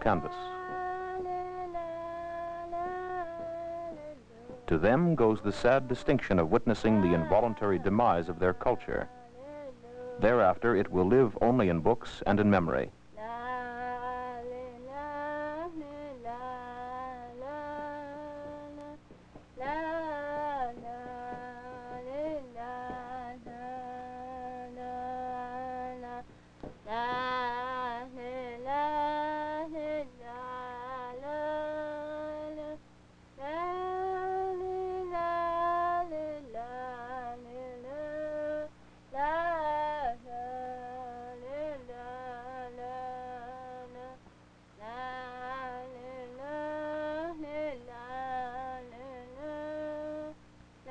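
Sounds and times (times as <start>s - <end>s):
woman singing slow melody: 0.0s - 11.6s, 13.1s - 50.9s.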